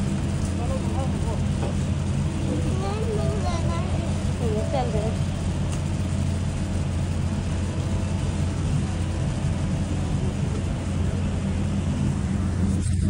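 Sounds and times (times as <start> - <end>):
low cabin hum: 0.0 - 13.0.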